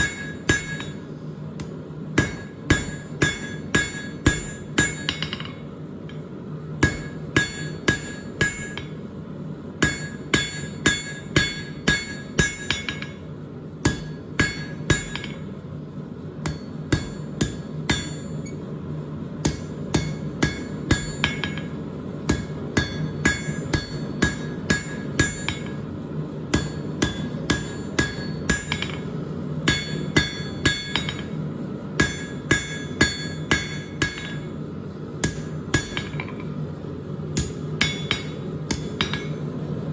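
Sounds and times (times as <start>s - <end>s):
hammer ringing on anvil: 0.0s - 1.1s, 2.2s - 6.2s, 6.8s - 9.0s, 9.8s - 15.5s, 16.4s - 18.6s, 19.4s - 25.9s, 26.5s - 31.4s, 32.0s - 34.6s, 35.2s - 36.6s, 37.4s - 39.5s
steady low hum: 0.0s - 39.9s.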